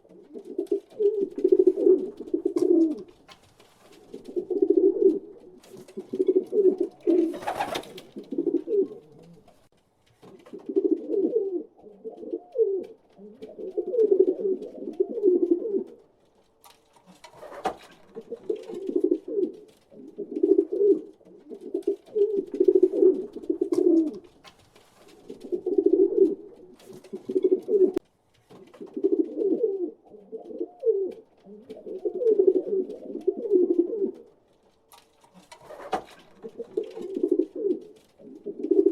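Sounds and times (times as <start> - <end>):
pigeons cooing: 0.0 - 3.2, 3.9 - 9.7, 10.5 - 16.1, 17.2 - 24.4, 25.1 - 28.0, 28.8 - 34.4, 35.4 - 38.9.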